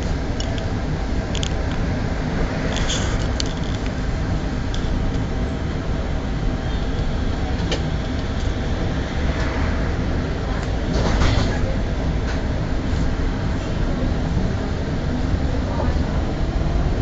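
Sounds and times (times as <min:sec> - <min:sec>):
tram rumbling on track: 0:00.0 - 0:17.0.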